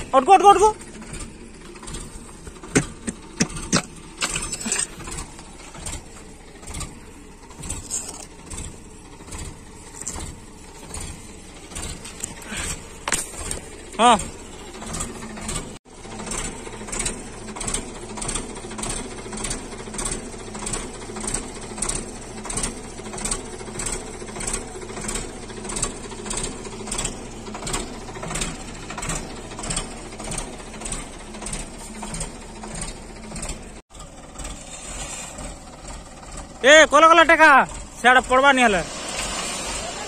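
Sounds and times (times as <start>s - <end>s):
tractor diesel engine running: 0.0s - 40.0s
regular clatter: 0.4s - 39.7s.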